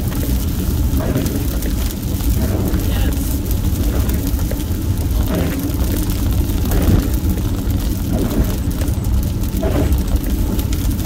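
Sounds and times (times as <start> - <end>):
car engine and road rumble: 0.0 - 11.0
rain ticking on windshield: 0.0 - 11.0.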